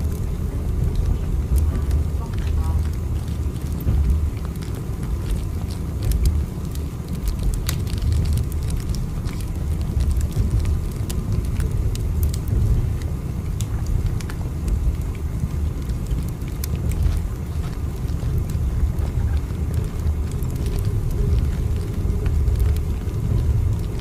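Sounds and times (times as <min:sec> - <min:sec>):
faint clicks and crackles: 0:00.0 - 0:24.0
low train rumble: 0:00.0 - 0:24.0.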